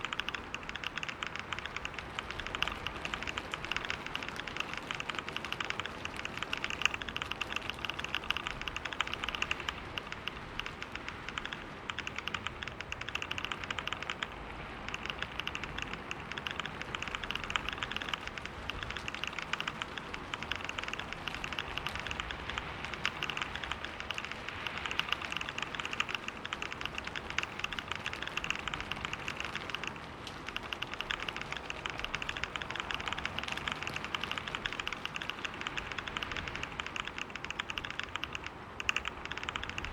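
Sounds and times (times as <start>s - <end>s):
fast typing on computer keyboard: 0.0s - 39.9s.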